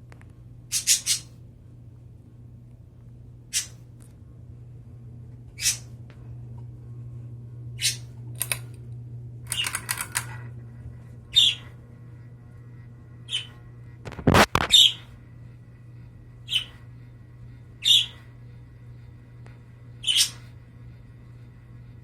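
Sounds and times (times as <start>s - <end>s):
ceiling fan motor hum: 0.0s - 22.0s.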